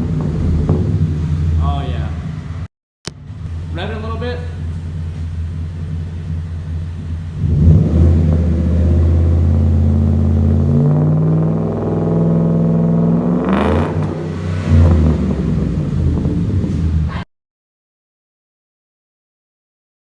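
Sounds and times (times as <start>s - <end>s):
truck engine idling and revving: 0.0s - 17.3s.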